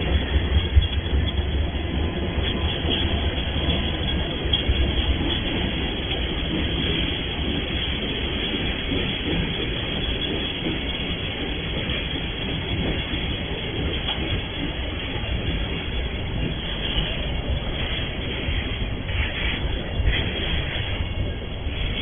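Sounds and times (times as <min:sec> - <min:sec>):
freight train rumbling past: 0:00.0 - 0:22.0
wheels clickety-clack: 0:00.0 - 0:22.0.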